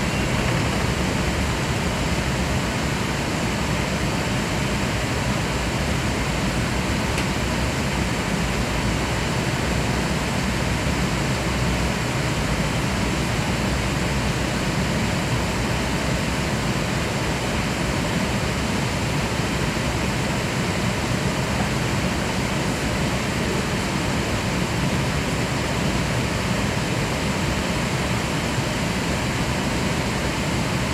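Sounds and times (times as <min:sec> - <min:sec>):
airliner engine rush and rumble: 0:00.0 - 0:30.9.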